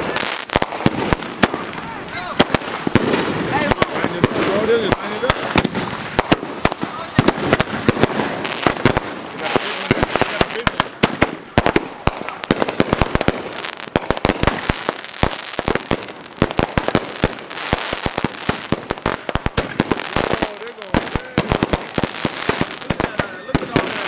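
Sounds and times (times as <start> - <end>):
crackling hiss: 0.0 - 24.0
fireworks bangs: 0.0 - 24.0.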